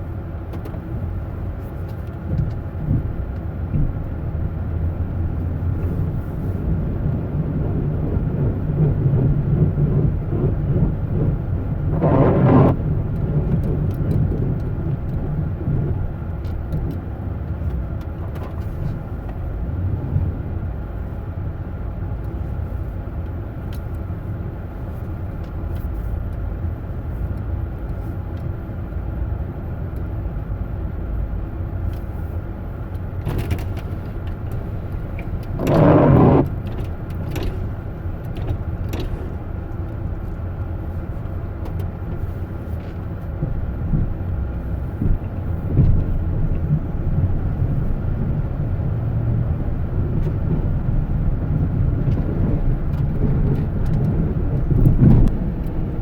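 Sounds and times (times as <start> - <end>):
road noise: 0.0 - 56.0
vehicle engine rumble: 0.0 - 56.0.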